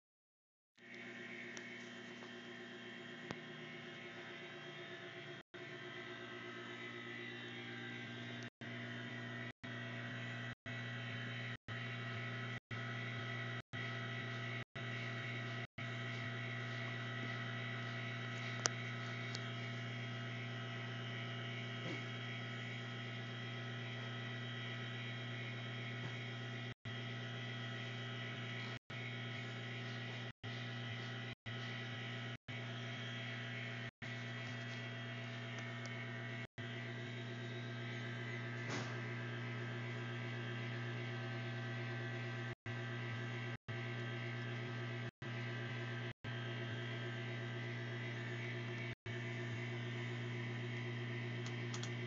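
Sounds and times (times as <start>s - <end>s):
electric drive mechanical hum: 0.8s - 52.0s
thin whine: 0.8s - 52.0s.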